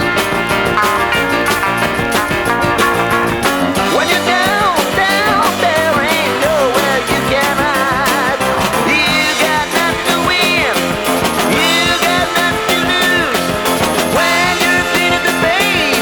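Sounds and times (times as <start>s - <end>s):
backing instruments: 0.0s - 16.0s
sliding vibrato lead melody: 0.0s - 16.0s
steady drum beat: 0.0s - 16.0s.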